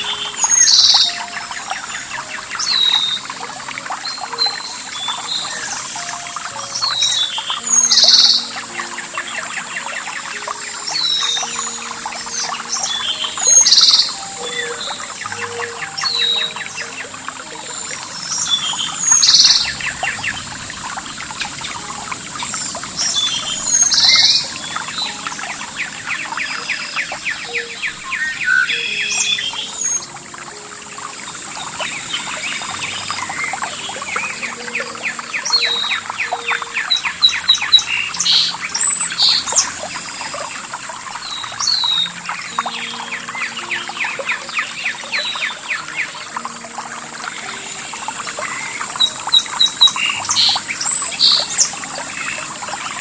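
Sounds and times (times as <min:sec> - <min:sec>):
birds chirping and singing: 0:00.0 - 0:53.0
trickling water: 0:00.0 - 0:53.0.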